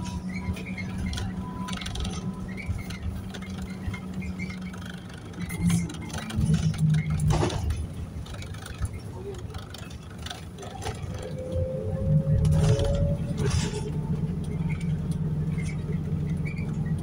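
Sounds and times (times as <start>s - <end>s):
bus drivetrain drone: 0.0s - 17.0s.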